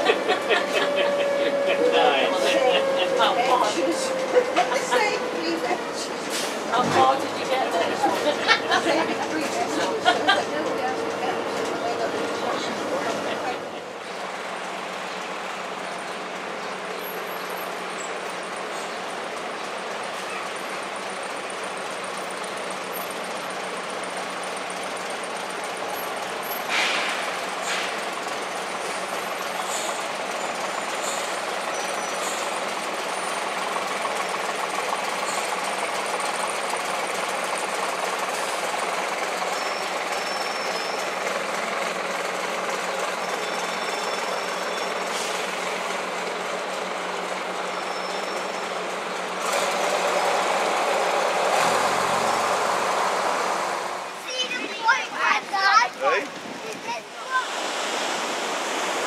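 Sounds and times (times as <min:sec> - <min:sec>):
bus diesel engine running: 0:00.0 - 0:59.0
street noise: 0:00.0 - 0:59.0.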